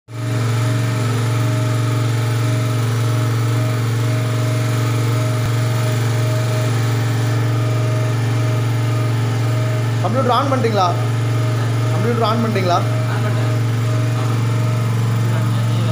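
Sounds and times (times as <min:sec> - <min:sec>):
portable generator running: 0:00.1 - 0:15.9.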